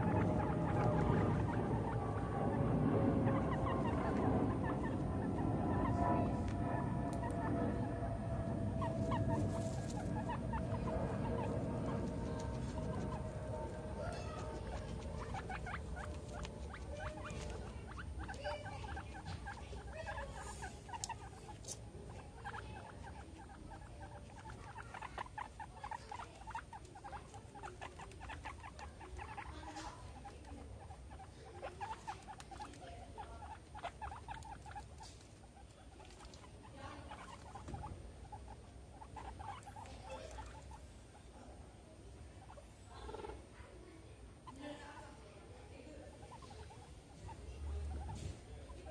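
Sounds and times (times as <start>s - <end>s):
guinea pigs clicking and rustling: 0.0s - 2.4s, 3.2s - 41.6s, 42.4s - 43.5s, 44.4s - 45.2s, 45.8s - 48.9s.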